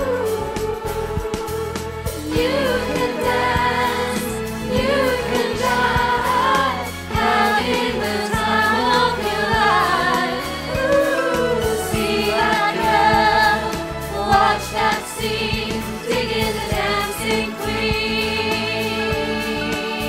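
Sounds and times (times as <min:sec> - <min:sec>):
full band backing: 0:00.0 - 0:20.0
pop song with group vocals: 0:00.0 - 0:20.0.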